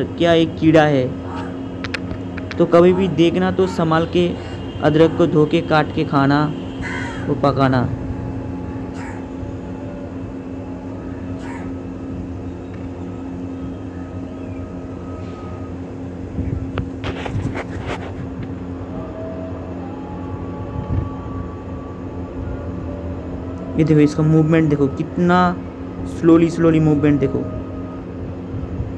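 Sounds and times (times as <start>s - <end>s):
low mechanical hum: 0.0s - 28.9s.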